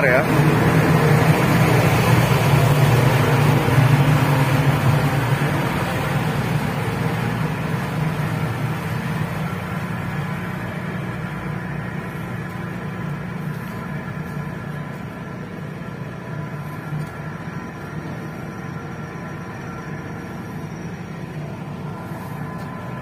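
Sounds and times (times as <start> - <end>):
faint steady whine: 0.0 - 23.0
ship machinery humming: 0.0 - 23.0.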